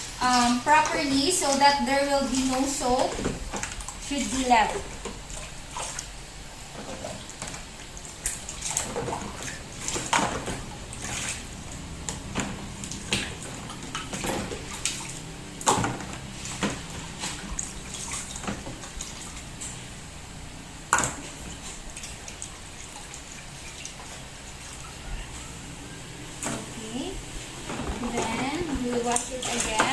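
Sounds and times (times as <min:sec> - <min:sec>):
running water: 0:00.0 - 0:29.9.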